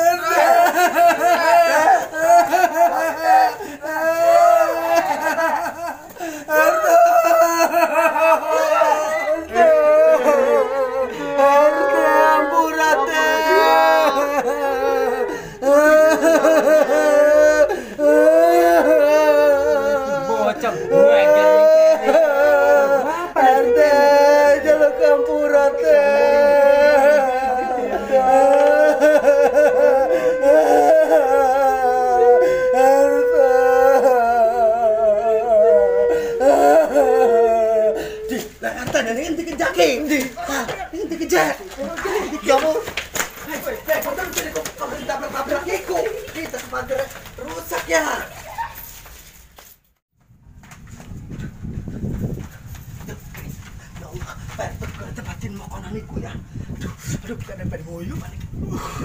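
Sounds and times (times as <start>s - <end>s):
people crying out words: 0.0s - 48.9s
people wailing and sobbing: 0.0s - 48.9s.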